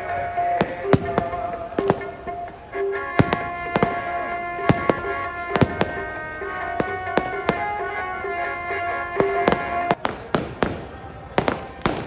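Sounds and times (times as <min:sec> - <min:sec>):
music: 0:00.0 - 0:12.0
fireworks bangs: 0:00.5 - 0:02.4, 0:03.1 - 0:08.0, 0:09.1 - 0:12.0.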